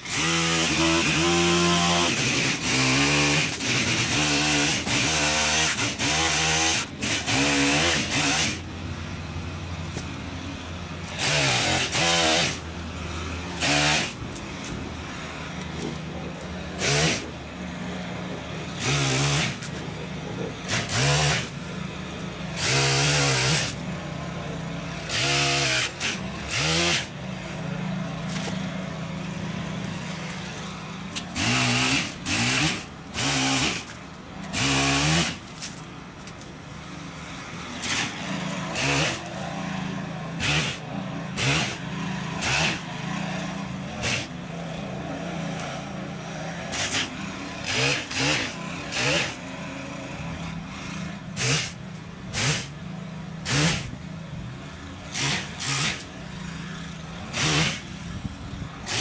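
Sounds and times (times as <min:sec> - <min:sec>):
chainsaw cutting branches: 0:00.0 - 0:08.8, 0:09.8 - 0:52.8, 0:53.4 - 0:59.0.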